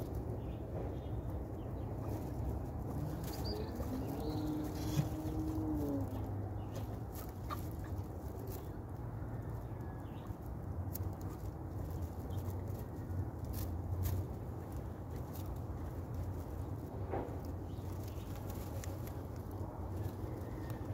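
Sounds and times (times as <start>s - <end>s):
guinea pigs rustling in hay: 0.0s - 20.9s
steady low rumble: 0.0s - 20.9s.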